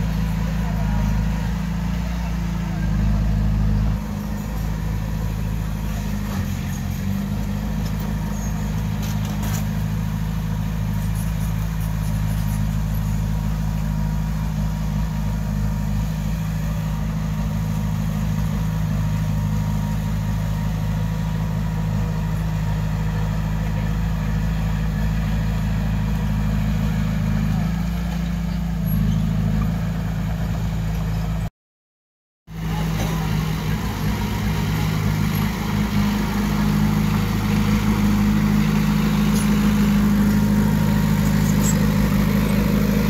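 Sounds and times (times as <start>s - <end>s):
diesel engine running steadily: 0.0s - 31.5s, 32.5s - 43.0s.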